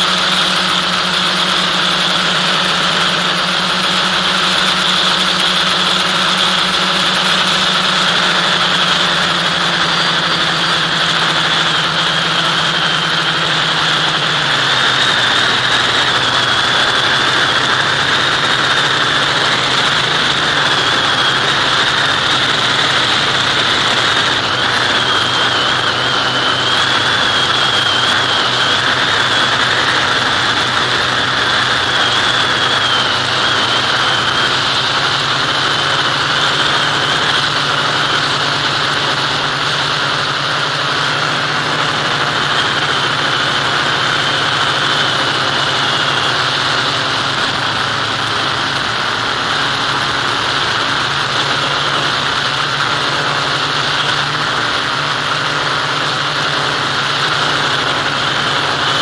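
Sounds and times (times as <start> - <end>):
model aircraft motor whine: 0.0 - 59.0.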